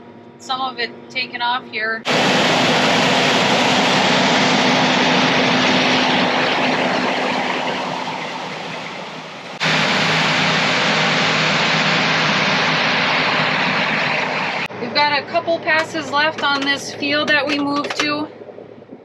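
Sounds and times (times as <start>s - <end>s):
combine harvester engine droning: 0.0s - 19.0s.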